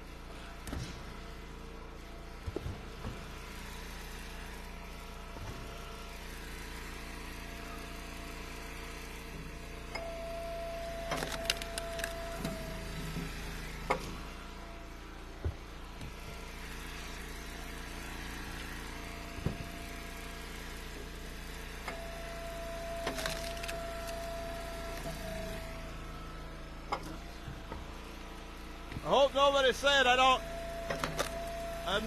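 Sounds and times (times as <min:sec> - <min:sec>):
hydraulic ram whine: 0:00.0 - 0:32.0
wood splitter engine hum: 0:00.0 - 0:32.0.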